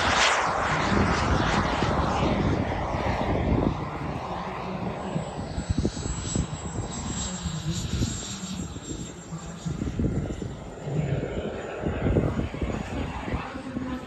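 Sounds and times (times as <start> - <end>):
high steady whine: 0.0 - 14.0
jet turbine engine rushing: 0.0 - 14.0.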